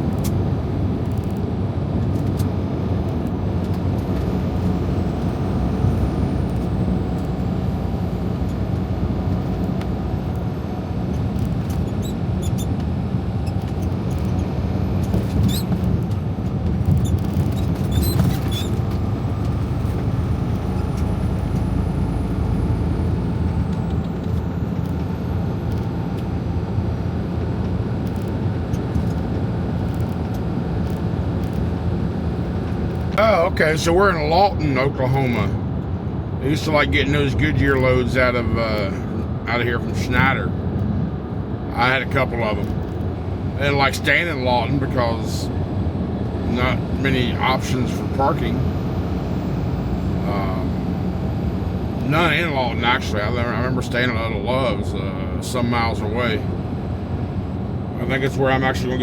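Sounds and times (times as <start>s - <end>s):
diesel truck engine drone: 0.0s - 59.0s
road noise: 0.0s - 59.0s.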